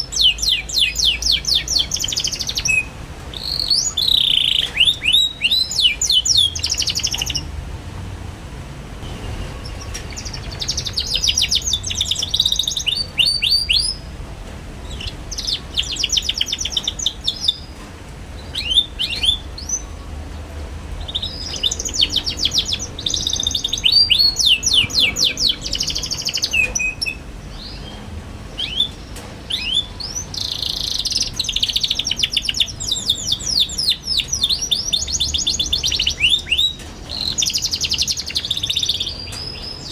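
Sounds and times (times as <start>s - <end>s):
canary singing trills: 0.0s - 7.6s, 9.0s - 14.2s, 14.8s - 39.9s.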